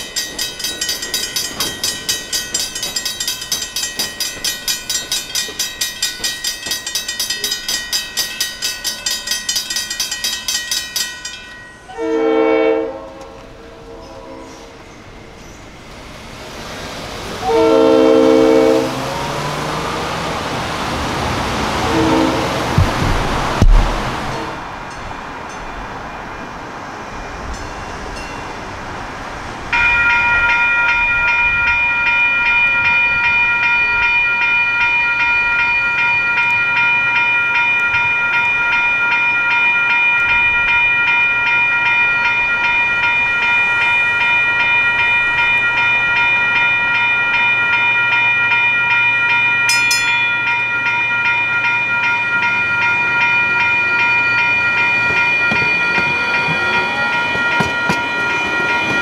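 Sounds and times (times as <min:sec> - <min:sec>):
railroad crossing bell ringing: 0:00.0 - 0:22.8, 0:24.3 - 0:59.0.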